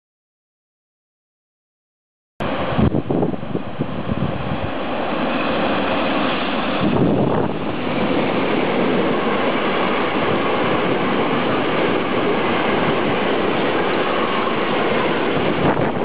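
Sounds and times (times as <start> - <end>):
freight train wheels rumbling on rails: 2.4 - 16.0.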